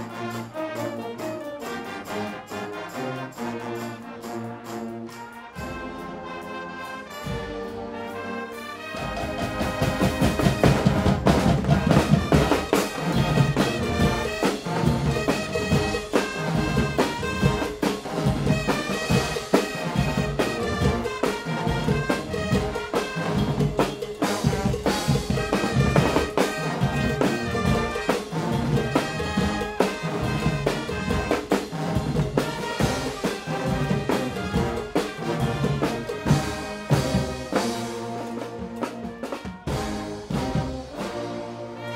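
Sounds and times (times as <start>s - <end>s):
brass band playing: 0.0s - 41.9s
drum kit and percussion: 0.0s - 41.9s.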